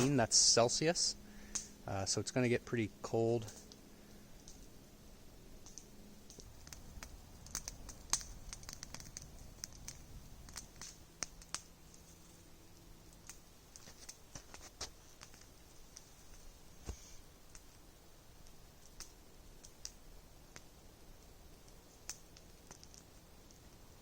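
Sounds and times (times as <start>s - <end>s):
campfire crackling: 0.0s - 24.0s
sharp snaps and pops of fire: 0.0s - 24.0s.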